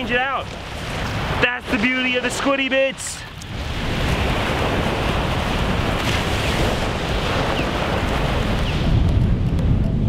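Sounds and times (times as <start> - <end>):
small waves breaking on sand: 0.0 - 9.1
wind rumbling on microphone: 0.0 - 10.0.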